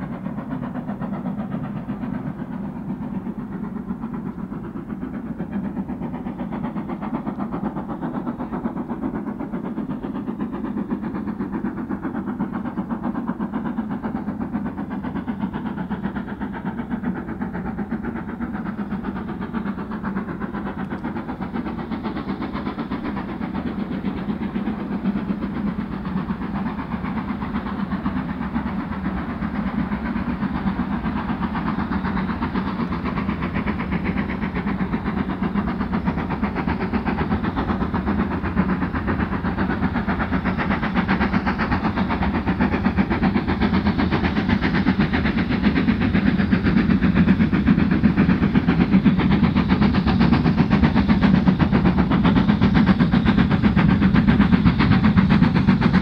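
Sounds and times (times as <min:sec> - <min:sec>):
steam train running: 0:00.0 - 0:56.0.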